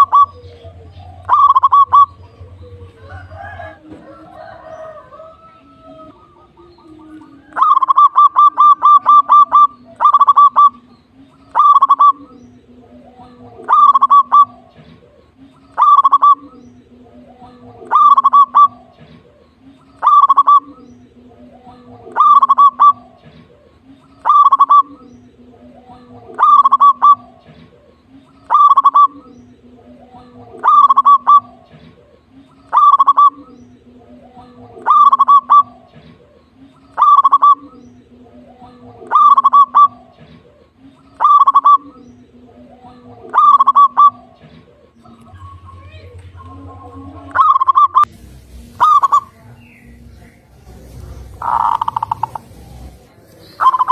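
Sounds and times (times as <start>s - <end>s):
dove cooing: 0.0s - 48.1s, 51.2s - 53.9s.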